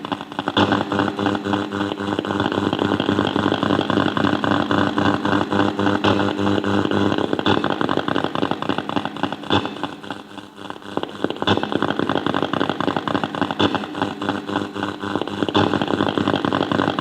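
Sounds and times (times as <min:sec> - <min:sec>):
radio buzzing with crackle: 0:00.0 - 0:17.0.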